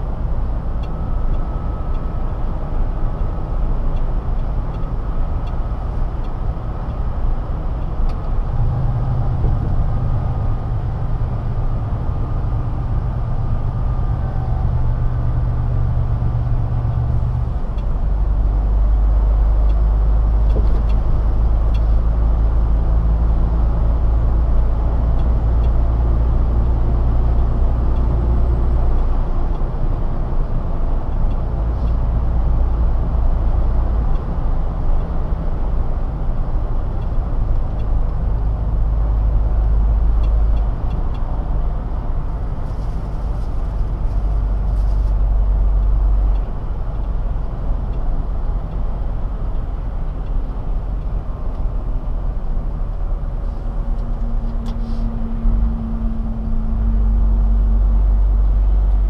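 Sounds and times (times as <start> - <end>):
truck engine and tyres droning: 0.0 - 59.0.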